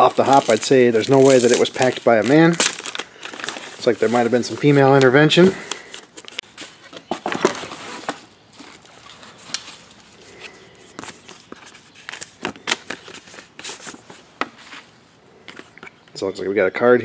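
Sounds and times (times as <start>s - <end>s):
packing paper and bubble wrap rustling: 0.0s - 15.0s.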